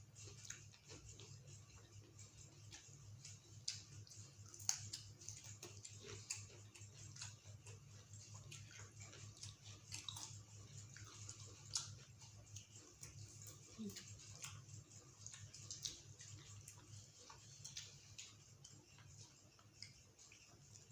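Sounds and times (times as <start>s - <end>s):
chewing and mouth clicks: 0.0s - 20.9s
low steady hum: 0.0s - 20.9s.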